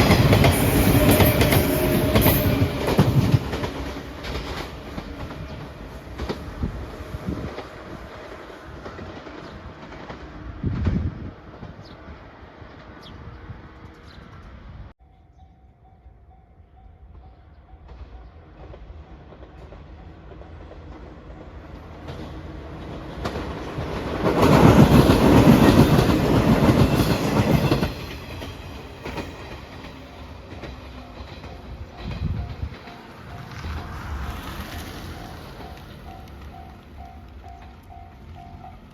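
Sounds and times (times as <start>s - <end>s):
wheels clattering over rail joints: 0.0s - 10.9s, 18.6s - 38.8s
train passing: 0.0s - 38.9s.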